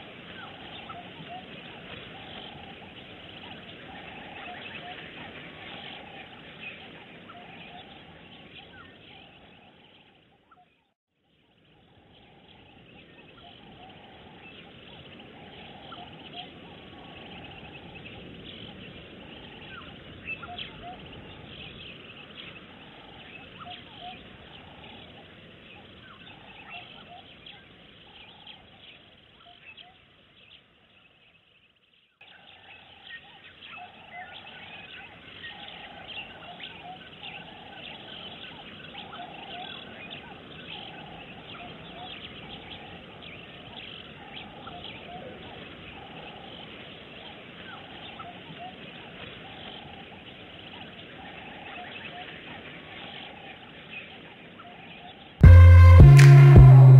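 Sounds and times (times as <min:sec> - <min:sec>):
steady background hiss: 0:00.0 - 0:10.3, 0:11.3 - 0:55.4.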